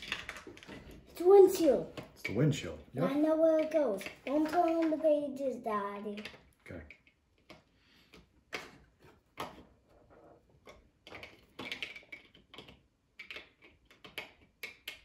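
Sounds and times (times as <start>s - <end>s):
plastic toy bricks clicking: 0.0s - 8.8s, 10.5s - 15.0s.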